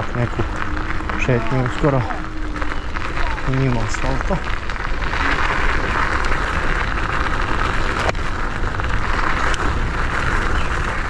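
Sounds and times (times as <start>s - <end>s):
scooter tyres rolling on gravel: 0.0s - 11.0s.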